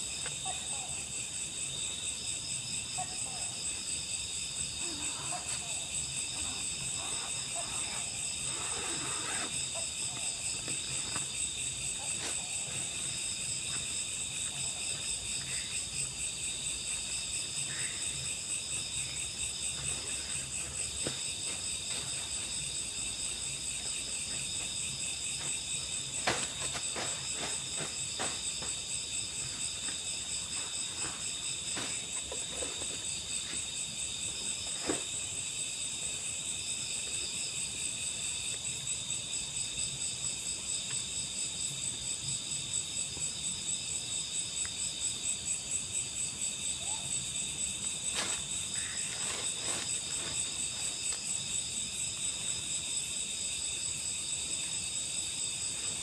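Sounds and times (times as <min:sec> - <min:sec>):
night insects trilling: 0:00.0 - 0:56.0.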